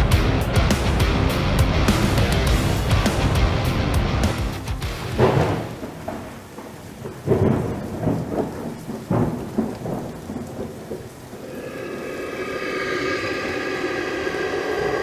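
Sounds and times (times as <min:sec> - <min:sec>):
rain falling: 0:00.0 - 0:15.0
thunder rumbling: 0:00.0 - 0:15.0.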